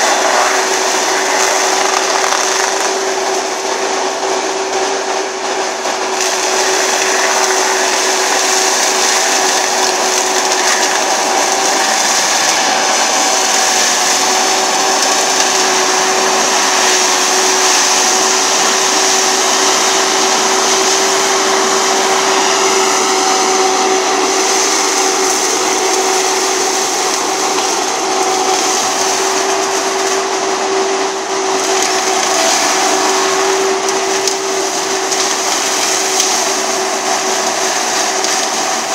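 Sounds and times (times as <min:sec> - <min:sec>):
mulcher engine and shredding: 0:00.0 - 0:38.9.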